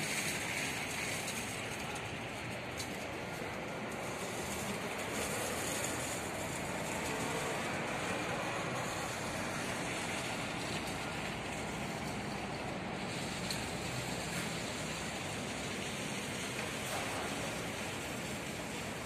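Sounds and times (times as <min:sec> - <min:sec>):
construction site noise: 0:00.0 - 0:19.0.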